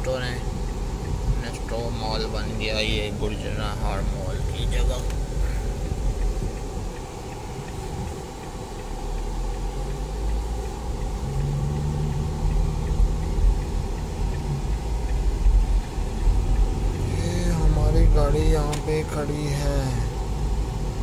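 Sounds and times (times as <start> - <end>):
engine and tyre rumble: 0.0 - 21.0
low engine hum: 0.0 - 21.0.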